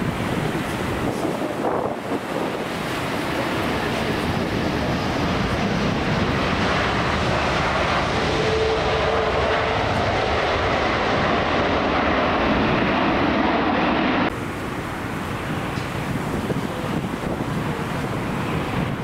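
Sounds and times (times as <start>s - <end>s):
jet airliner roar: 0.0s - 19.0s.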